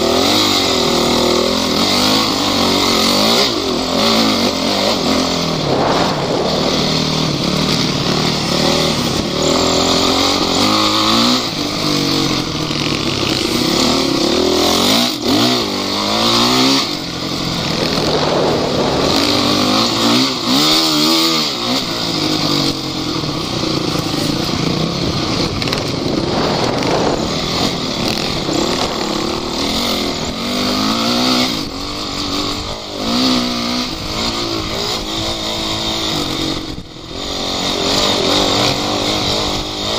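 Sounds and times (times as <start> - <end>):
driving noise: 0.0 - 39.9
off-road vehicle engine revving: 0.0 - 39.9.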